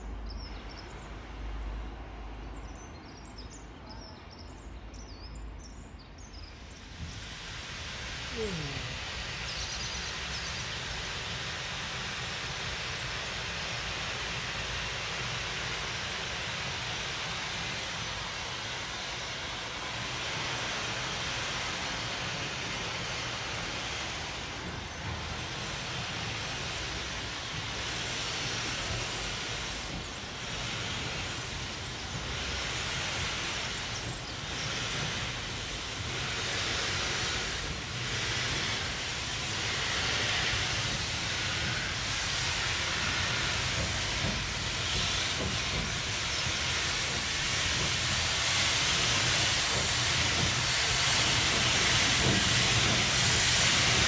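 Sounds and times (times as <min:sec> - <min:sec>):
steam locomotive exhaust beats: 0:00.0 - 0:54.0
steam hissing: 0:06.2 - 0:54.0.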